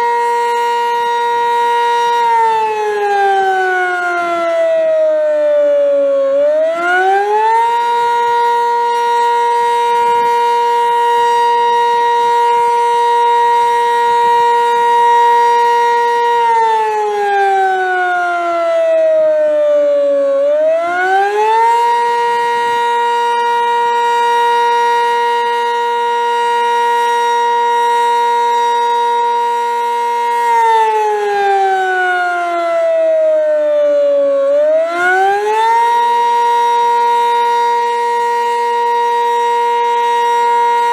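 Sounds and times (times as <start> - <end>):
warning siren slow wail: 0.0 - 40.9.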